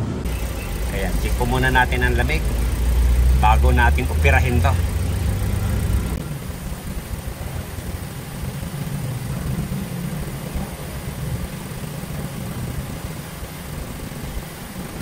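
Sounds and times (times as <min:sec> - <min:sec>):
air rushing from vents: 0:00.0 - 0:15.0
car engine idling hum: 0:00.0 - 0:15.0.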